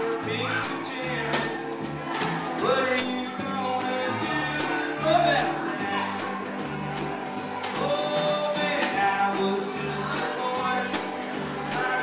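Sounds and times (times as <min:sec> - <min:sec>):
man singing: 0:00.0 - 0:06.7, 0:07.6 - 0:12.0.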